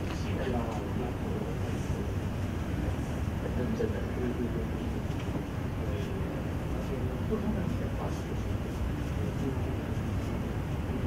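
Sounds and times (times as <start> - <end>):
faint murmuring voices: 0.0 - 11.0
low room rumble: 0.0 - 11.0.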